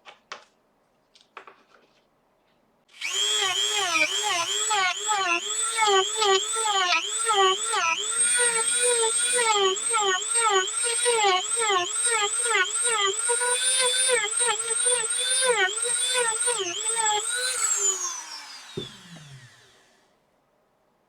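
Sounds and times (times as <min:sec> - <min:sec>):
rotary tool grinding: 0:03.0 - 0:19.9.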